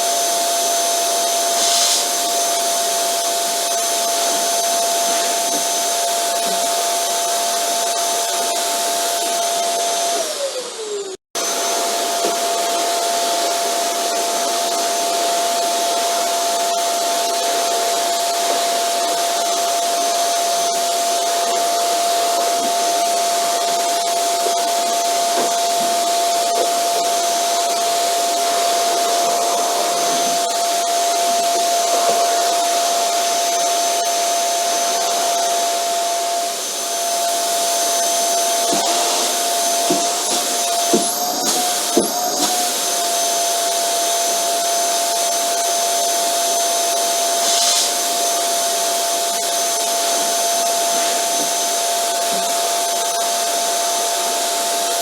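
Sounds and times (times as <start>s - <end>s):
vacuum cleaner motor whining: 0.0s - 55.0s.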